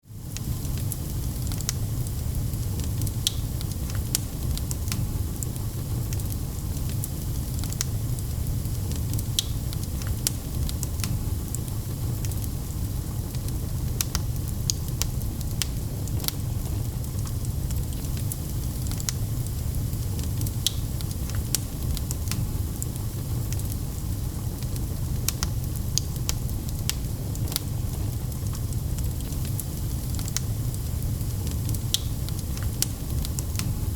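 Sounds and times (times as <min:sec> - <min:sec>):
low fire rumble: 0:00.1 - 0:33.9
wood fire crackling: 0:00.1 - 0:33.9.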